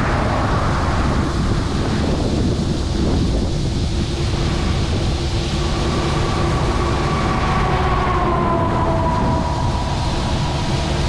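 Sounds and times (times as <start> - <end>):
combine diesel engine rumbling: 0.0 - 11.0.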